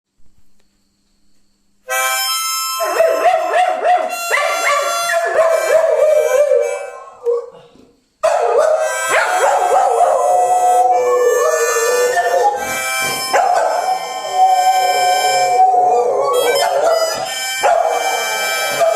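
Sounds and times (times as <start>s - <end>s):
harmonica playing chords: 1.9s - 7.4s, 8.7s - 18.9s
dogs howling: 2.8s - 18.9s.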